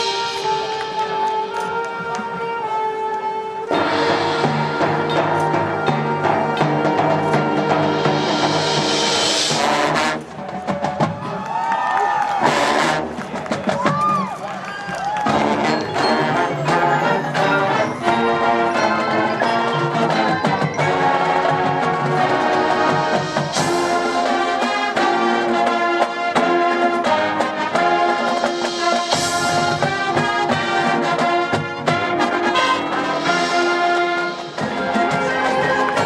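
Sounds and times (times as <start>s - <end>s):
brass held chords: 0.0s - 10.5s, 12.4s - 13.3s, 15.2s - 36.0s
drum strokes: 0.0s - 11.4s, 12.8s - 36.0s.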